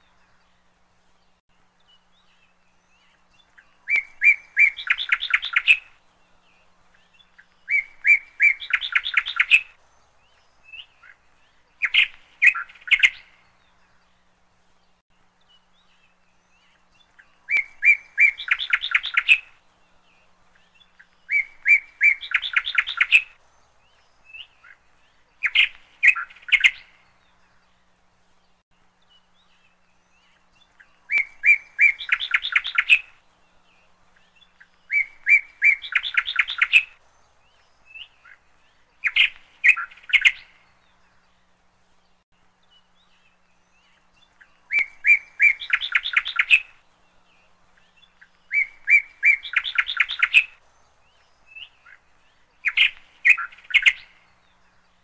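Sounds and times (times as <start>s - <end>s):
small bird chirping and trilling: 1.3s - 14.2s, 14.8s - 41.5s, 42.1s - 55.0s.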